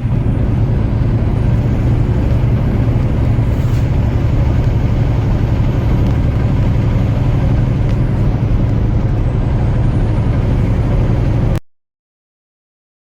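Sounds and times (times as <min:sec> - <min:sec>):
road and tyre noise: 0:00.0 - 0:11.6
truck engine drone: 0:00.0 - 0:11.6.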